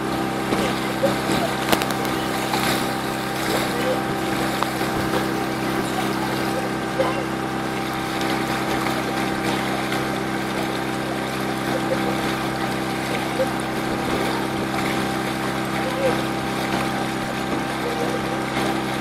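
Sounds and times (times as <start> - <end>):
boat engine droning: 0.0 - 19.0
water rushing along hull: 0.0 - 19.0.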